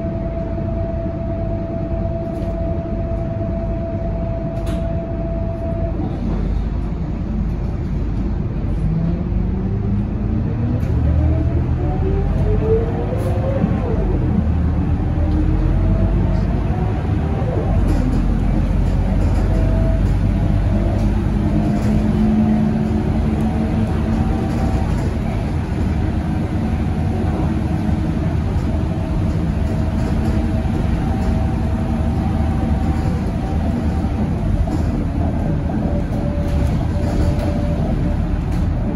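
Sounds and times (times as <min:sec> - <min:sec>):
bus engine drone: 0:00.0 - 0:38.9.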